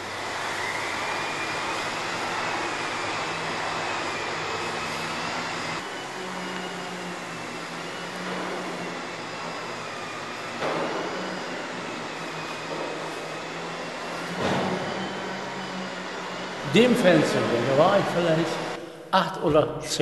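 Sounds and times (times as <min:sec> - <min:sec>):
vacuum cleaner running: 0:00.0 - 0:19.1.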